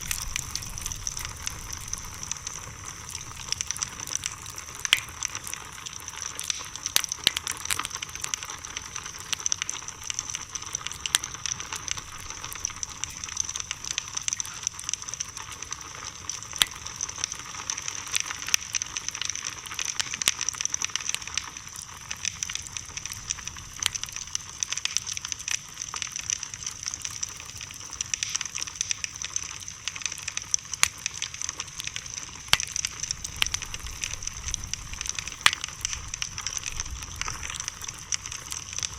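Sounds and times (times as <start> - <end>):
bonfire crackling and popping: 0.0 - 38.9.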